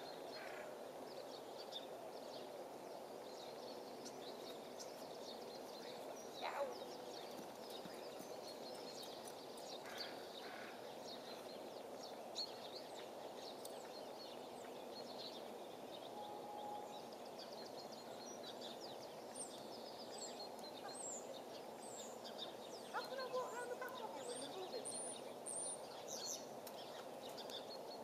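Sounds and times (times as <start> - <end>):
outdoor background hiss: 0.0 - 28.0
small birds chirping: 0.0 - 28.0.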